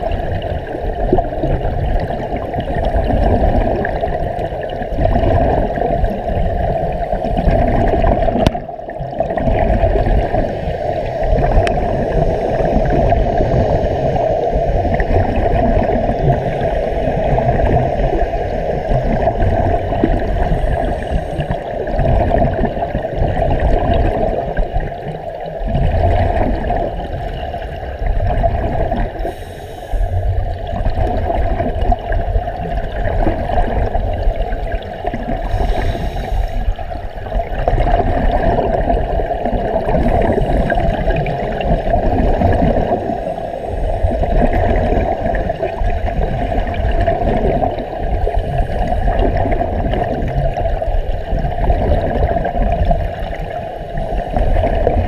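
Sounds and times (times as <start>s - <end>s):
underwater air bubbling: 0.0s - 55.0s.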